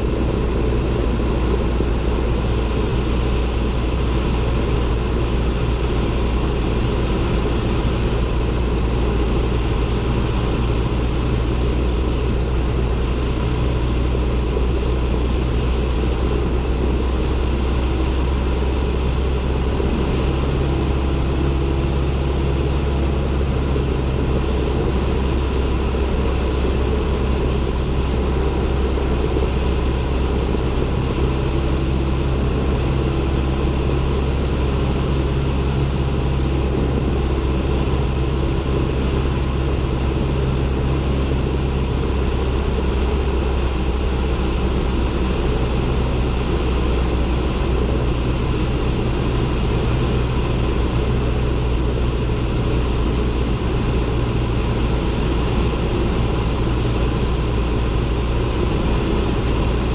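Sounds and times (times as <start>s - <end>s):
airplane engine and propeller: 0.0s - 59.9s.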